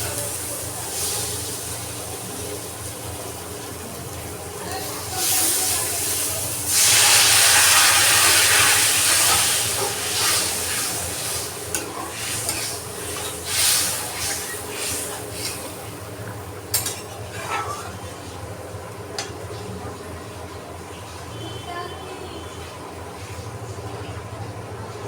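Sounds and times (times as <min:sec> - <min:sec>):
curry sizzling in a pan: 0:00.0 - 0:23.3.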